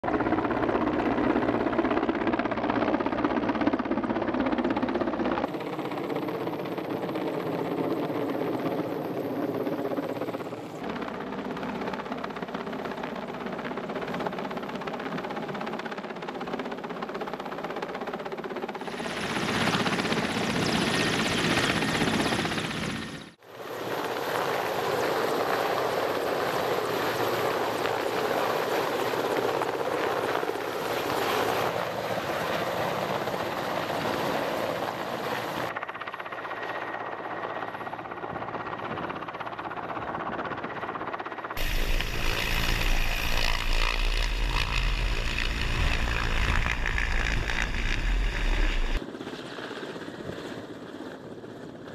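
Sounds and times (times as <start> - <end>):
helicopter rotors and turbines: 0.0 - 51.9.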